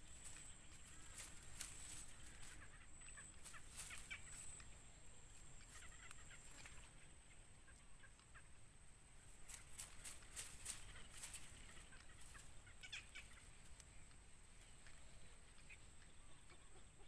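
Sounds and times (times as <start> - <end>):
bird chick peeping: 0.0 - 17.0.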